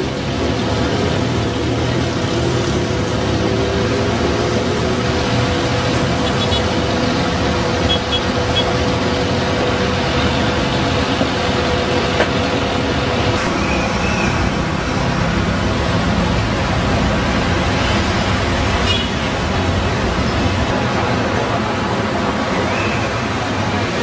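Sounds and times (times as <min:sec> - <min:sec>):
bus and heavy vehicle engines: 0:00.0 - 0:24.0
city road traffic: 0:00.0 - 0:24.0.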